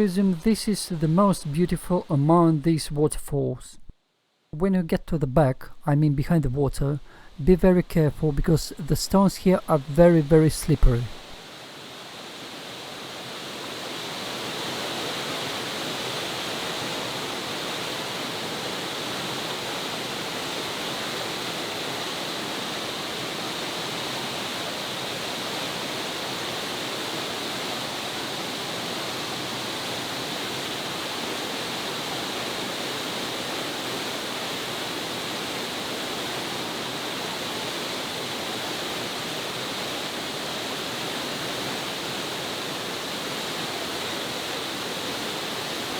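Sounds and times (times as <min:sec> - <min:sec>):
waterfall rushing: 0:06.0 - 0:45.9.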